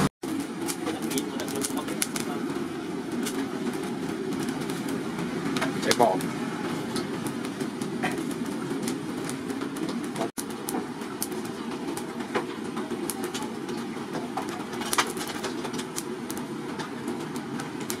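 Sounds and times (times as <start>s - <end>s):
charcoal fire crackling: 0.0s - 18.0s
electric blower fan rushing: 0.0s - 18.0s.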